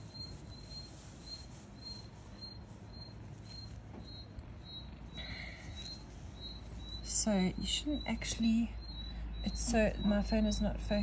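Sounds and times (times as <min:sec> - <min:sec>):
faint pulsing high-pitched tone: 0:00.0 - 0:11.0.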